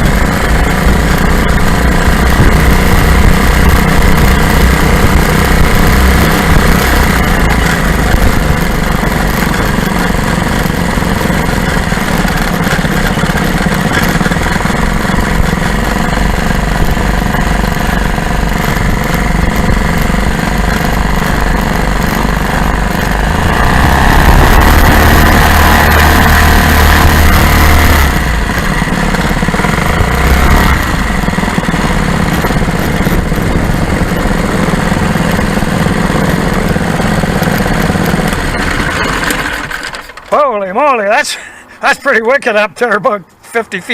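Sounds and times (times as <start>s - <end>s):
small two-stroke engines running: 0.0s - 42.0s.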